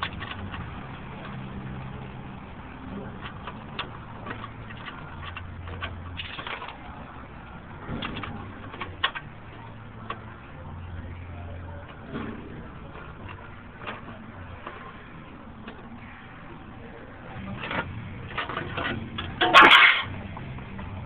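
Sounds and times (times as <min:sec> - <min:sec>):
metal clicks and scrapes: 0:00.0 - 0:02.2, 0:02.8 - 0:10.4, 0:11.8 - 0:16.2, 0:17.4 - 0:20.8
low steady hum: 0:00.0 - 0:21.0.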